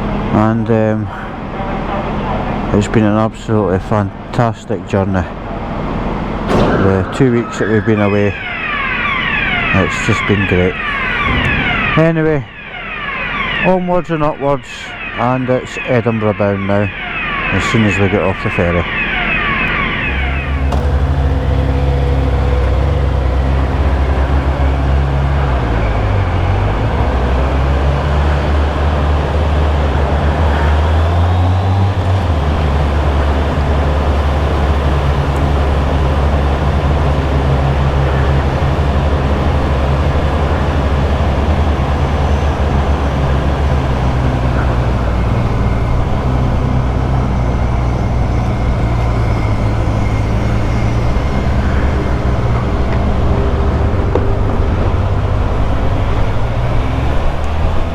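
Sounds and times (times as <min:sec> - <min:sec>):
wind and road noise: 0:00.0 - 0:14.4, 0:15.2 - 0:57.9.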